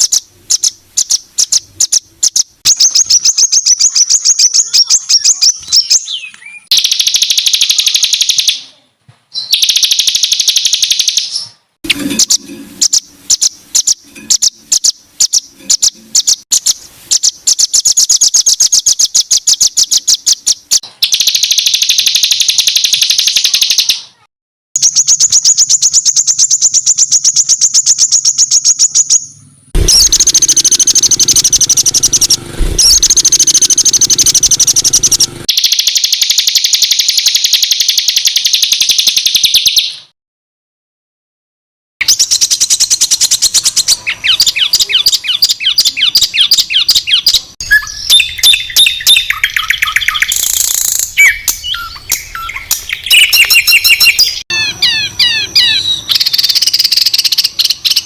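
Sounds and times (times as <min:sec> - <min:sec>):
songbird chattering trill: 0:00.0 - 0:08.7, 0:09.4 - 0:24.2, 0:24.8 - 0:40.0, 0:42.0 - 0:58.0.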